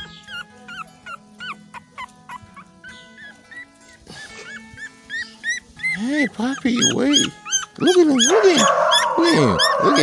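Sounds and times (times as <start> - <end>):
puppy whimpering: 0.0 - 10.0.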